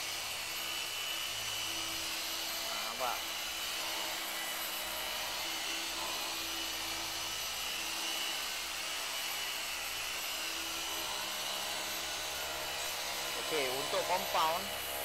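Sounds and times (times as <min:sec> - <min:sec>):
orbital polisher whirring: 0:00.0 - 0:15.0.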